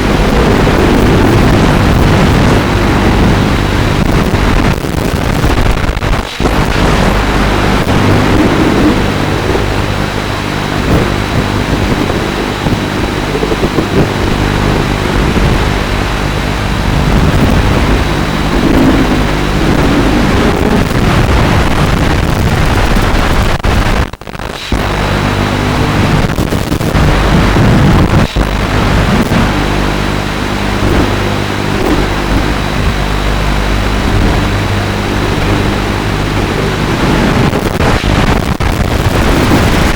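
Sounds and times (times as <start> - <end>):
quadcopter motors and propellers: 0.0 - 21.9, 26.9 - 38.2
wind noise on microphone: 0.0 - 39.9.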